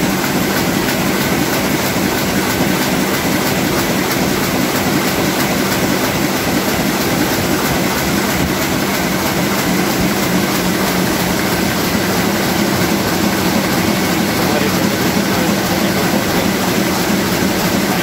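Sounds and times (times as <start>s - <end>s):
printing press running: 0.0s - 18.0s.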